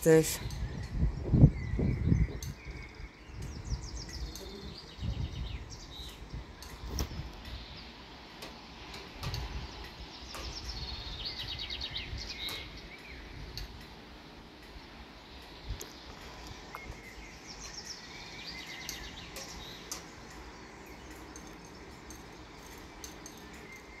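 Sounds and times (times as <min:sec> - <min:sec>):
songbirds chirping: 0:00.0 - 0:24.0
wind rumble on microphone: 0:00.0 - 0:24.0.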